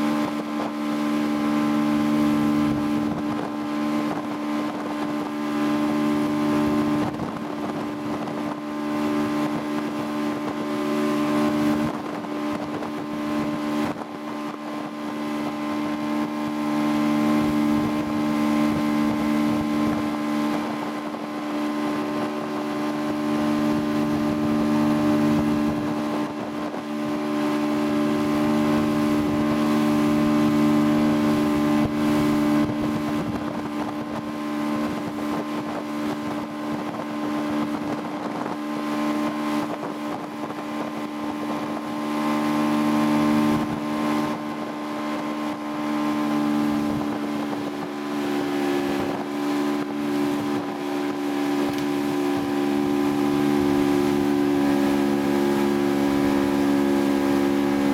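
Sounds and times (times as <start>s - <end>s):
motorboat engine humming: 0.0s - 57.9s
water rushing in wake: 0.0s - 57.9s
wind on microphone: 0.0s - 57.9s.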